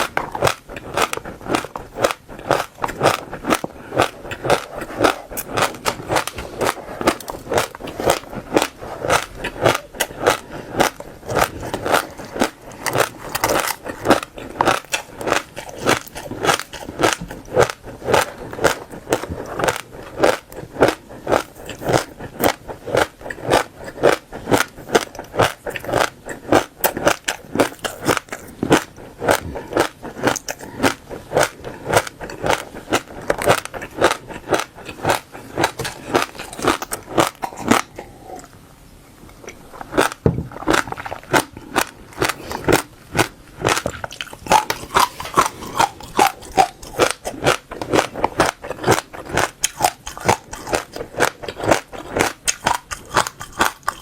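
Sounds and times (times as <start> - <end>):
seeds crunched between teeth: 0.0 - 37.9, 39.8 - 54.0.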